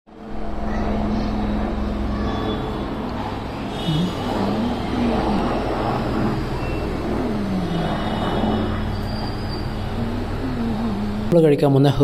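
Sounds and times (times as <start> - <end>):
helicopter flying overhead: 0.1 - 11.9.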